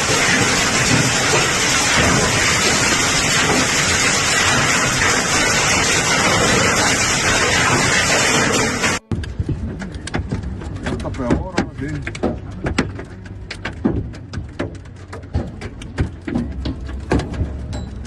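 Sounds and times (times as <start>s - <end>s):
heavy hail pelting surfaces: 0.0s - 18.0s.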